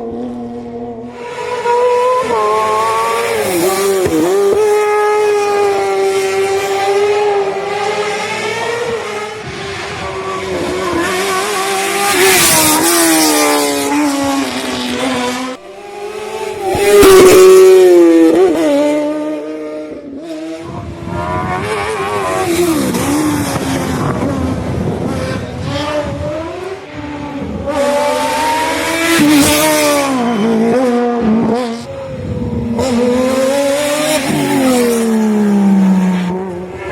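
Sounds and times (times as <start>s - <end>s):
race car engines revving: 0.0s - 36.9s.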